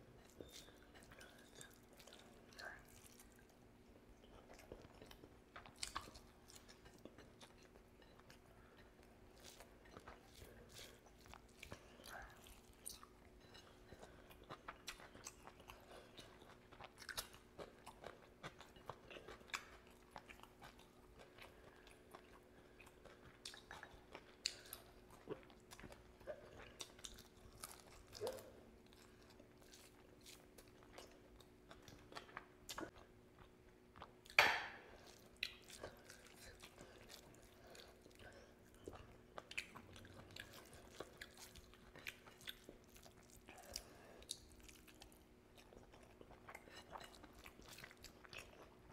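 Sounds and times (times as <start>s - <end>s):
faint steady hum: 0.0s - 48.9s.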